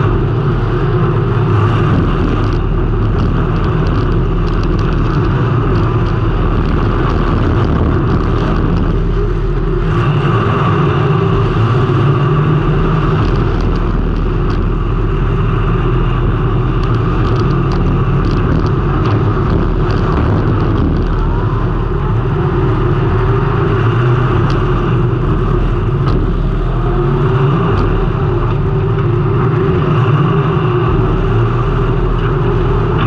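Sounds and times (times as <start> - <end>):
race car engine running: 0.0 - 33.0.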